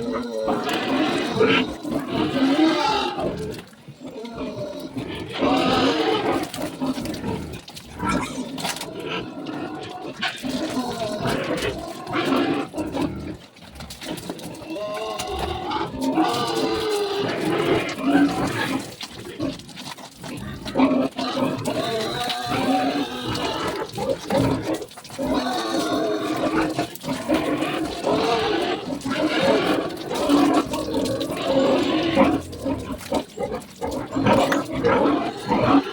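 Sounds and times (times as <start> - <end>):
pigs squealing and grunting: 0.0 - 35.9.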